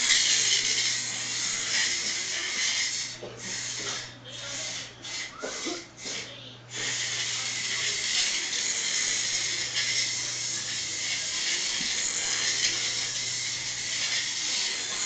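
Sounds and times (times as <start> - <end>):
robot gear motors whirring: 0.0 - 5.6, 6.7 - 15.0.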